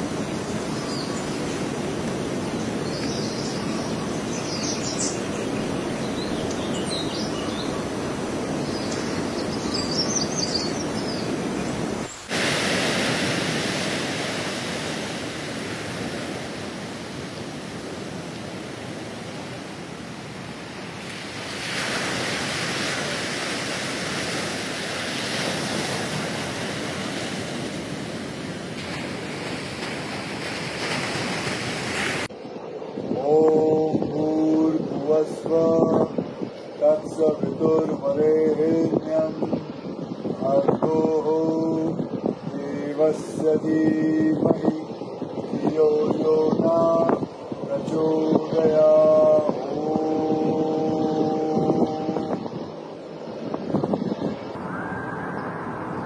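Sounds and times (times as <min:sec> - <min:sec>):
wind and sea rushing: 0:00.0 - 0:56.0.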